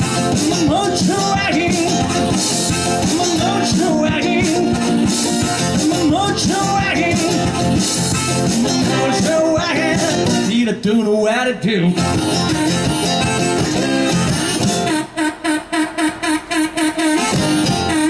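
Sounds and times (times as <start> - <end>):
slide guitar blues: 0.0 - 15.2, 17.2 - 18.0.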